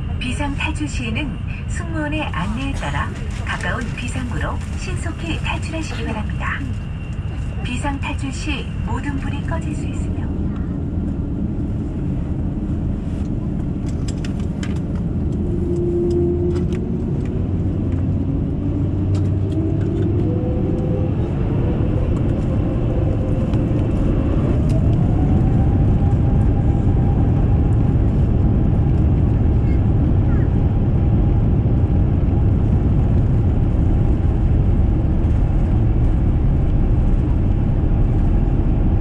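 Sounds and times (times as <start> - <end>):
jet engine whine: 0.0 - 39.0
jet engines rumbling: 0.0 - 39.0.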